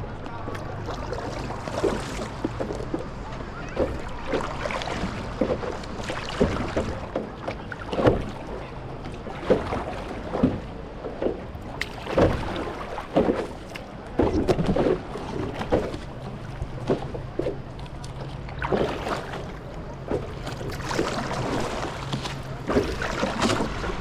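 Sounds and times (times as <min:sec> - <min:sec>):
paddle strokes splashing water: 0:00.0 - 0:24.0.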